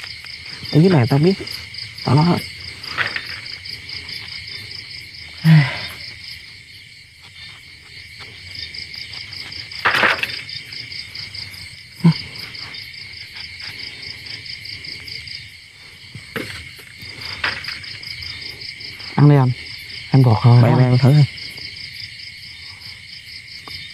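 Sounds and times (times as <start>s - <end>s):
crickets chirping: 0.0s - 23.9s.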